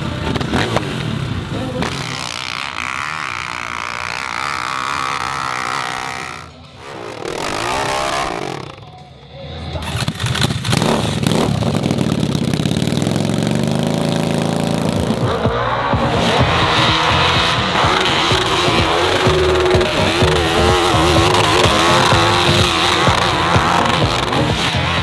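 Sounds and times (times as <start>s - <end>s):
dirt bike engine: 0.0s - 25.0s
dirt bike riding: 0.0s - 25.0s.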